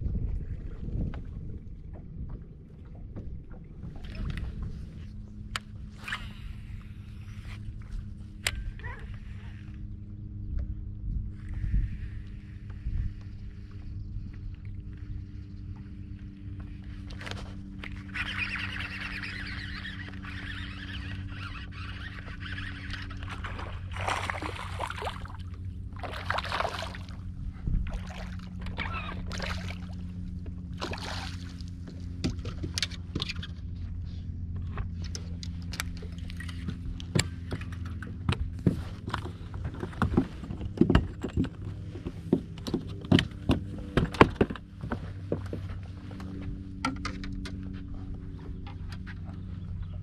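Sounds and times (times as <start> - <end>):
electric trolling motor humming: 1.4 - 50.0.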